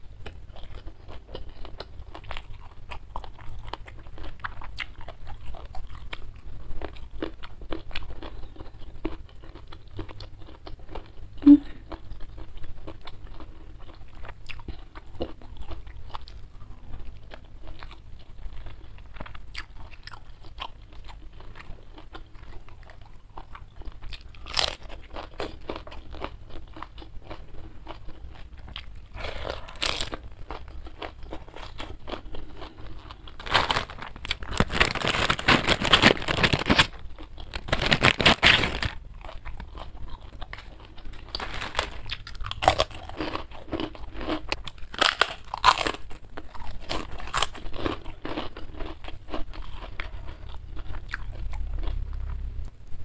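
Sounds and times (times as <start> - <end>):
person chewing and crunching food: 0.0 - 53.0.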